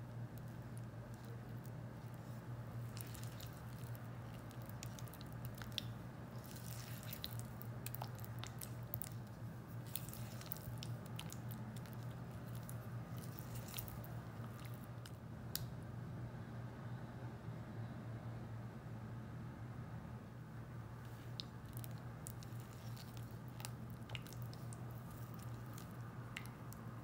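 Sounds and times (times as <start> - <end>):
spatula squishing in yogurt: 0.0 - 15.7, 21.0 - 27.0
steady low hum: 0.0 - 27.0.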